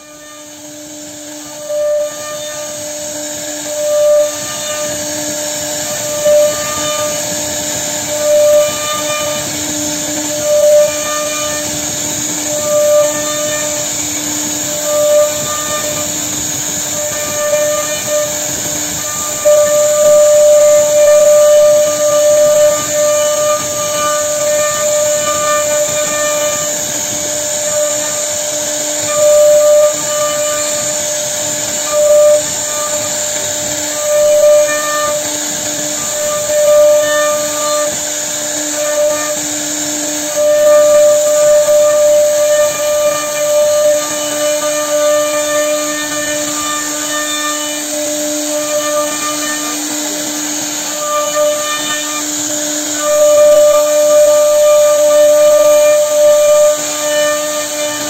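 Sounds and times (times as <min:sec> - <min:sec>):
router spindle cutting wood: 0:00.0 - 0:58.0.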